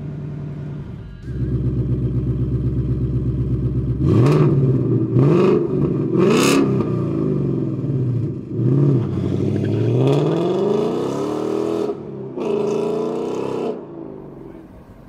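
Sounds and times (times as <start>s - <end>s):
car engine accelerating hard: 0.0s - 14.7s.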